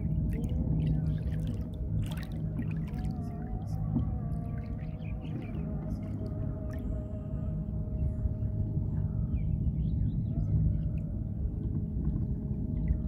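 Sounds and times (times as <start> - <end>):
small boat motor rumble: 0.0 - 13.0.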